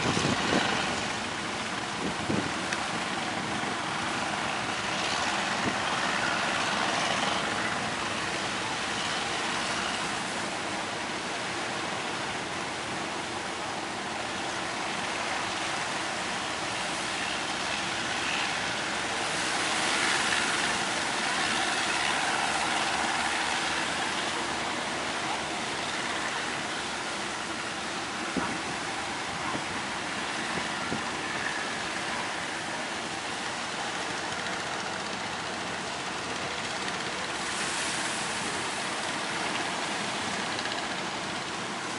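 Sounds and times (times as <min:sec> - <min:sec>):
boat engines: 0:00.0 - 0:41.9.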